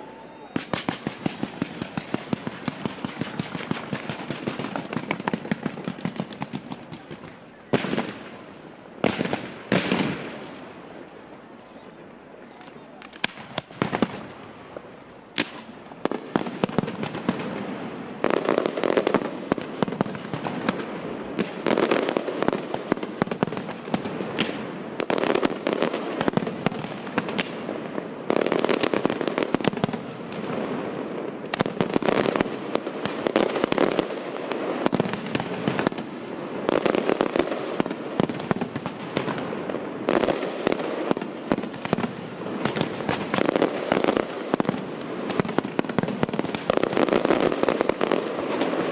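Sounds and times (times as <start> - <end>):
firework crackling: 0.0 - 48.9.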